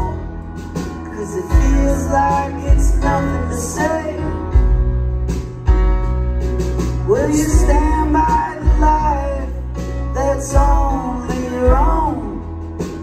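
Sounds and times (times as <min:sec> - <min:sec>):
man singing: 0:00.0 - 0:04.6, 0:07.1 - 0:13.0
live band with keyboard: 0:00.0 - 0:13.0.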